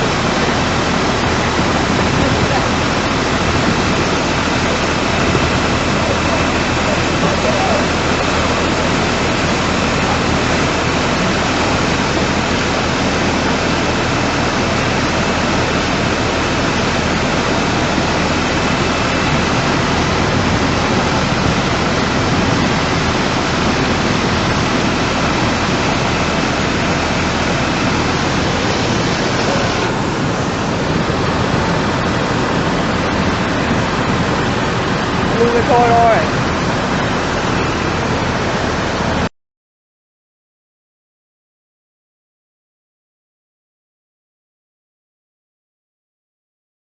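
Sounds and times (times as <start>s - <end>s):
floodwater rushing: 0.0s - 39.3s.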